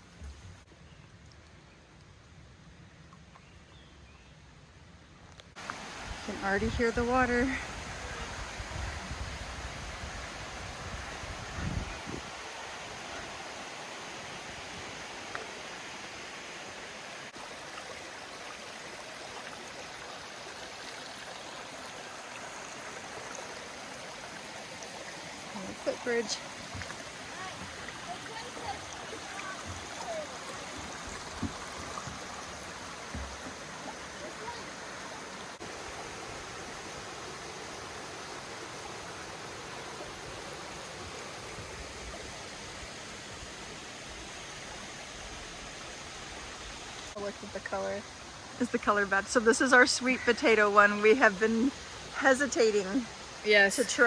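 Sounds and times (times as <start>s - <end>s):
stream rushing water: 5.5s - 54.0s.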